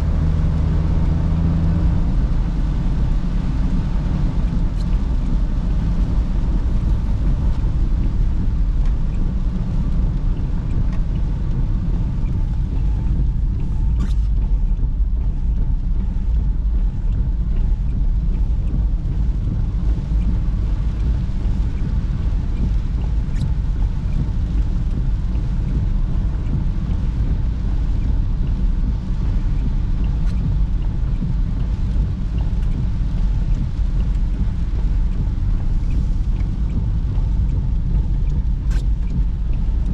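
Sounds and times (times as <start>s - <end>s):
car engine and tyre rumble: 0.0s - 39.9s
faint ticks: 4.5s - 5.4s, 6.1s - 39.9s.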